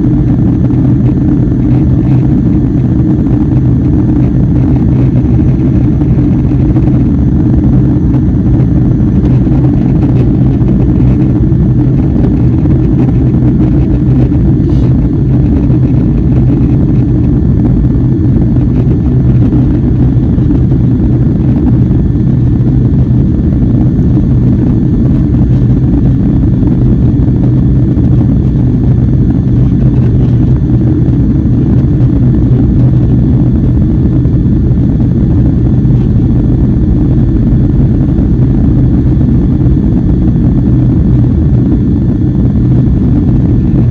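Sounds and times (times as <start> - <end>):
airliner cabin engine drone: 0.0 - 43.9.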